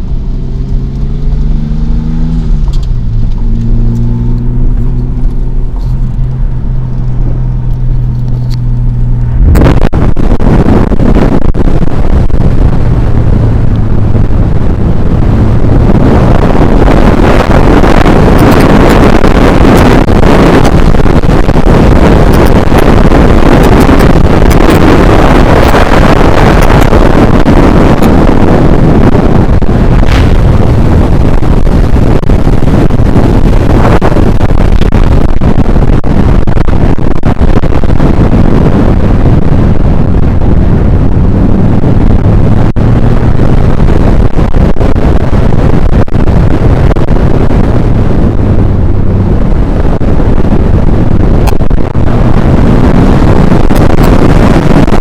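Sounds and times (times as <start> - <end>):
low engine hum: 0.0 - 55.0
wind rushing past car: 0.0 - 55.0.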